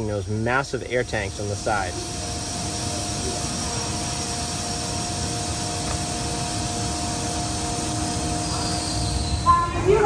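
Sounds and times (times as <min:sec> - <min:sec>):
air compressors running: 0:00.0 - 0:10.0.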